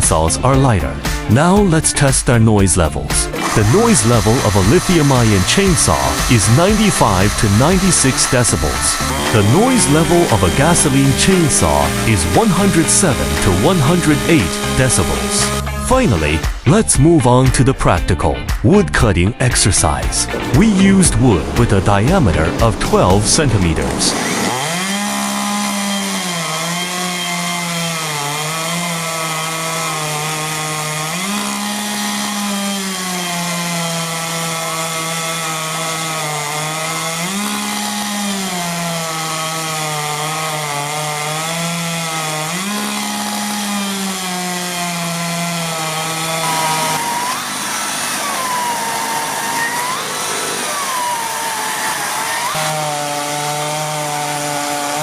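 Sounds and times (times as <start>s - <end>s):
chainsaw cutting log: 2.9s - 17.4s, 19.5s - 55.0s.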